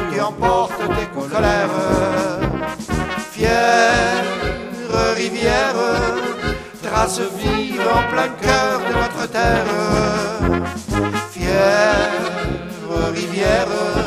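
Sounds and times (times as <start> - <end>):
brass orchestra playing: 0.0 - 14.0
pulsing bass beat: 0.4 - 14.0.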